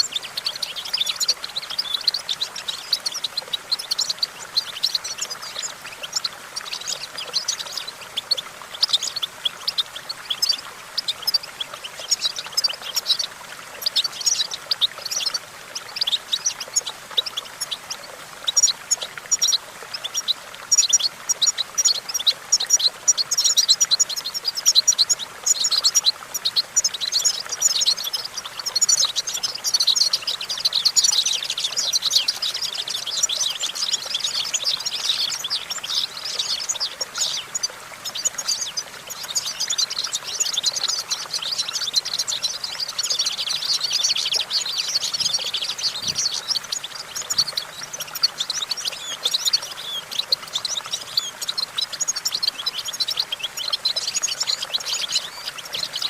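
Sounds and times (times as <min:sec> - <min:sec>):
goldfinch singing: 0:00.0 - 0:56.0.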